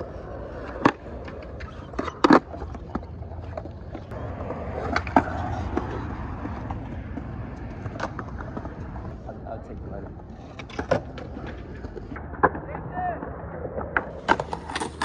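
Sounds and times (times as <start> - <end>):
skateboard clacks: 0.0 - 15.0
skateboard wheels rolling: 0.0 - 15.0.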